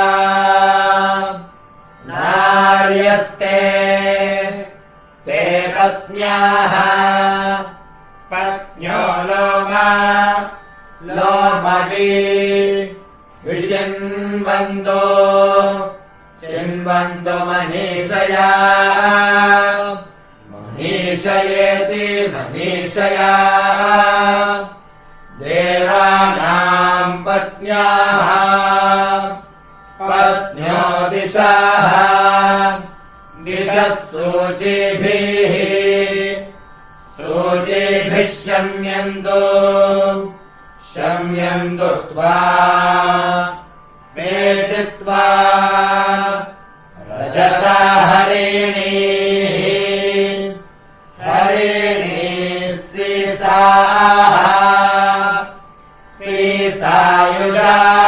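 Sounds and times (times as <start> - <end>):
person chanting verses: 0.0 - 24.8, 25.4 - 36.5, 37.1 - 43.6, 44.2 - 50.6, 51.2 - 58.0.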